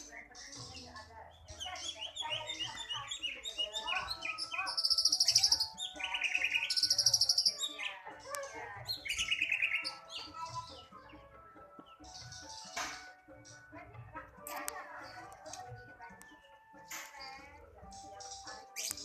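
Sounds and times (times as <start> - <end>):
bird trills: 0.0 - 19.0
songbird singing: 0.0 - 19.0.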